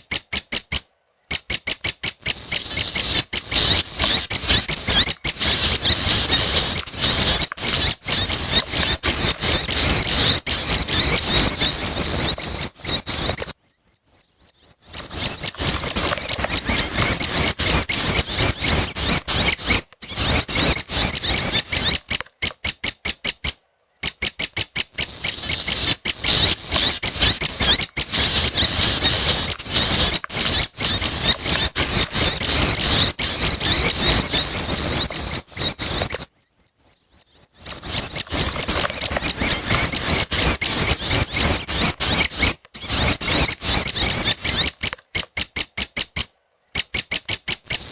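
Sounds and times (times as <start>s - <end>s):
chicks squeaky begging calls: 0.0s - 47.9s.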